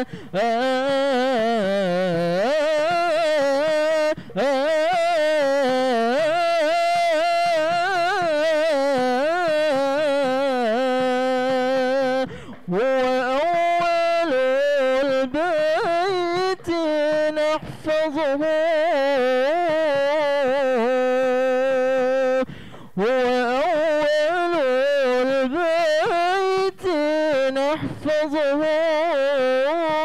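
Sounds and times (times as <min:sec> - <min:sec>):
man singing into microphone: 0:00.0 - 0:30.0.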